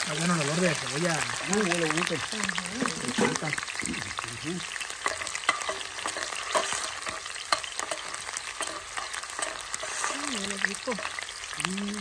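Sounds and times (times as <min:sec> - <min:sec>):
oil popping and crackling: 0:00.0 - 0:12.0
onion sizzling in hot oil: 0:00.0 - 0:12.0.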